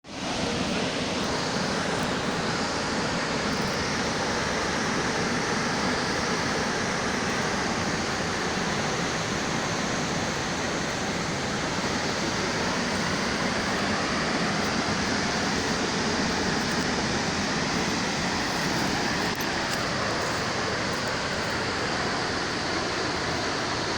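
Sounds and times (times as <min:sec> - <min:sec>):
waterfall rushing: 0:00.1 - 0:23.9.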